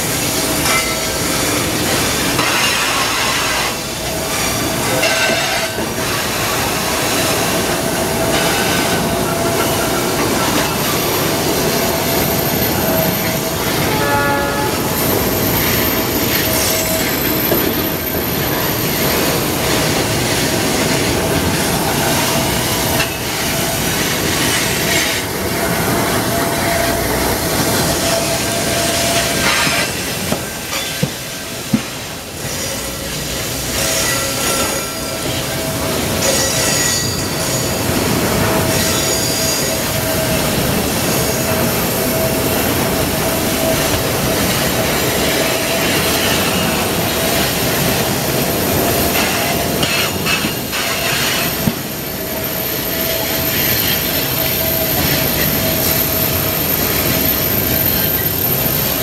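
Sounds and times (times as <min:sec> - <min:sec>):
steel wheels rumbling on rail: 0:00.0 - 0:59.0
high wheel squeal: 0:00.2 - 0:31.6, 0:32.3 - 0:59.0.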